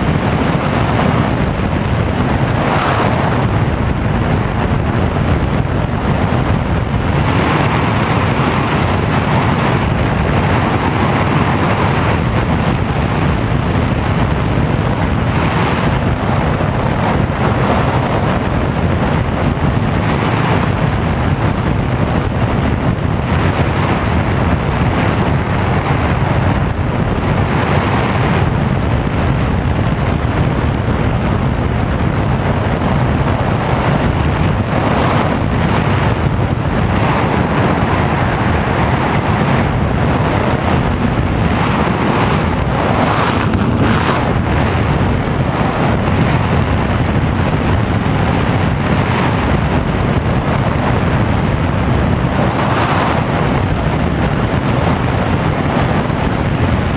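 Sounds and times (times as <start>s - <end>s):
wind rush on microphone: 0.0s - 56.9s.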